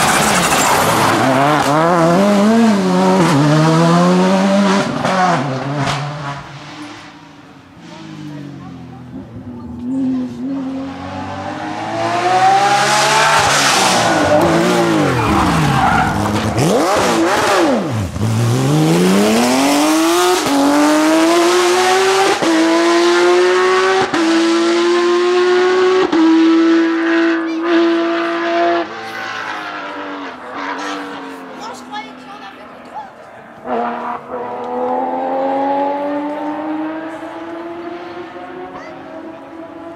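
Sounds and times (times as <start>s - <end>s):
rally car engine accelerating: 0.0s - 31.6s, 33.4s - 39.9s.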